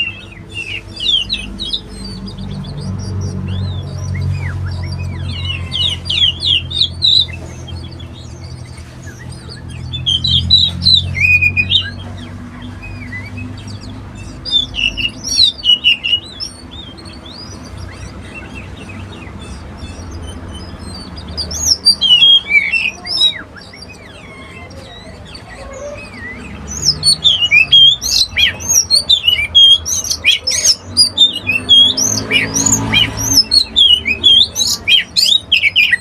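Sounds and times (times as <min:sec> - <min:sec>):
bird singing whistled notes: 0:00.0 - 0:36.0.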